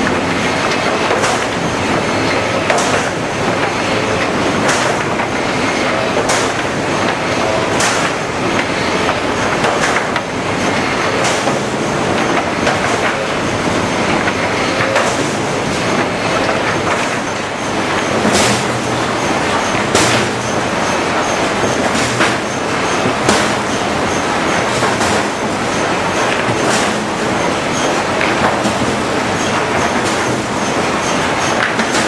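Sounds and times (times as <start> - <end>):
sawing machine clattering: 0.0 - 32.0.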